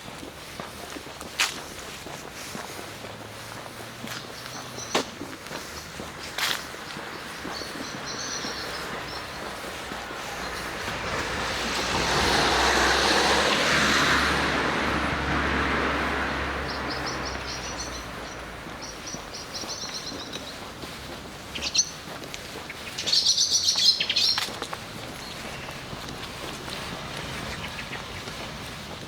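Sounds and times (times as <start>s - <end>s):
car passing: 0.1s - 29.0s
small birds chirping: 0.4s - 11.9s, 16.1s - 29.0s.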